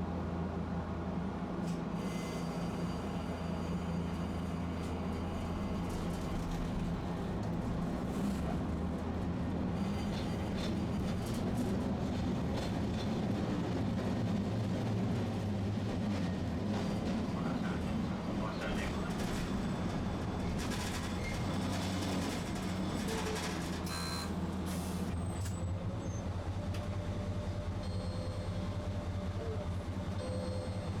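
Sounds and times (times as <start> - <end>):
streetcar rumbling: 0.0 - 31.0.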